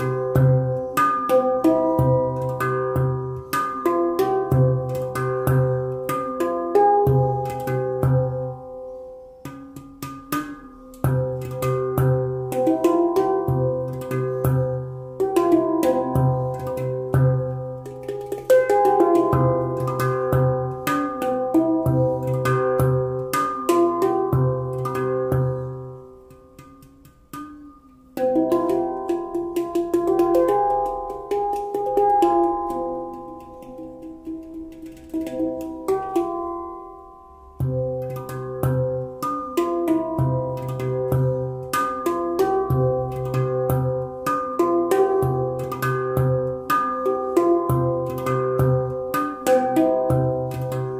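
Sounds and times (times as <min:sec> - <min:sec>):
deep low handpan notes: 0:00.0 - 0:50.9
handpan melody: 0:00.0 - 0:50.9.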